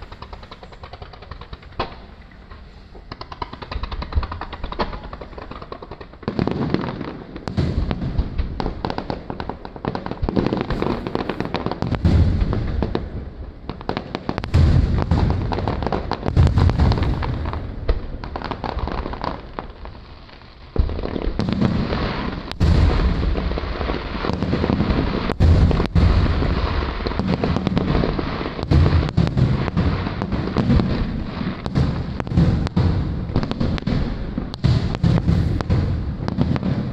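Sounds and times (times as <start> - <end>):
fireworks booming and crackling: 0.0 - 36.9.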